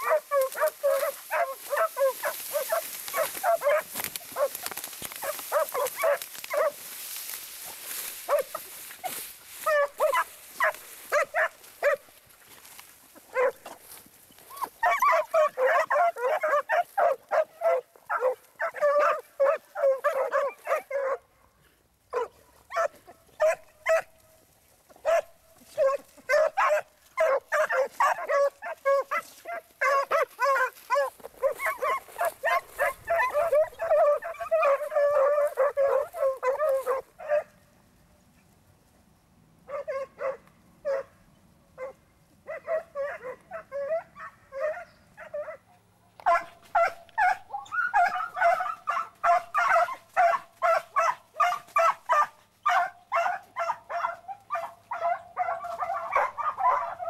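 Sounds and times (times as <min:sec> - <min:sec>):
hounds yelping barks: 0:00.0 - 0:21.5, 0:22.1 - 0:24.2, 0:24.9 - 0:37.7, 0:39.6 - 0:41.2, 0:41.8 - 0:57.0.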